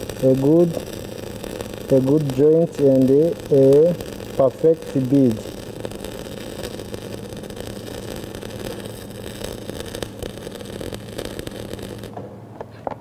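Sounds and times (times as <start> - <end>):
welding arc crackling: 0.0 - 12.3.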